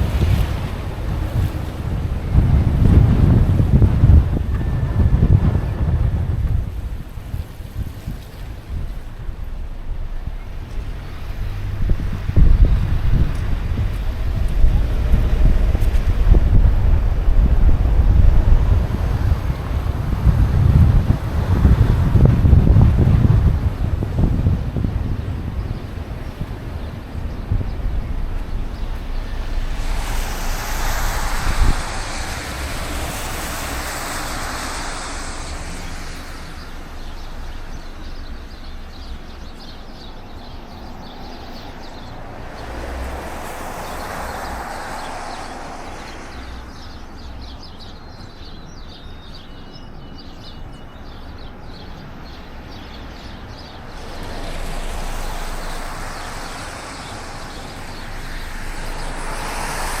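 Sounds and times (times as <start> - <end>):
vehicles passing: 0.0 - 48.7, 51.4 - 60.0.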